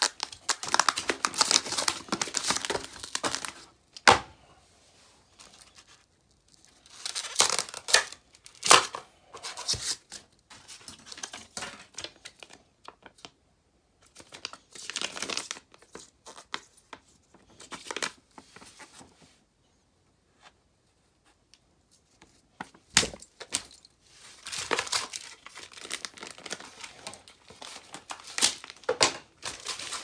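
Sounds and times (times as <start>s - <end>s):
wrapper crinkling and rustling: 0.0s - 3.8s, 5.4s - 13.3s, 14.0s - 19.1s, 22.7s - 30.0s.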